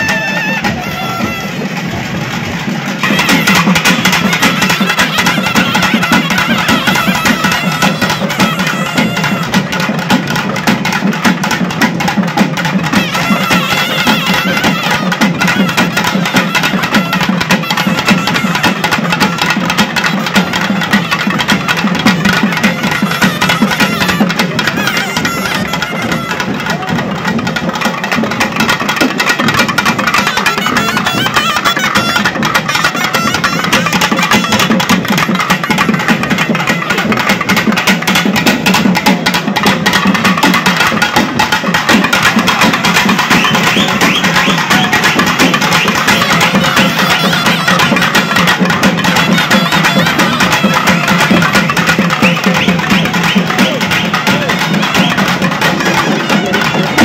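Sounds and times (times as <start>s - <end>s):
reed wind instrument melody: 0.0s - 10.8s, 12.6s - 27.4s, 28.5s - 57.0s
barrel drums played fast: 0.0s - 57.0s.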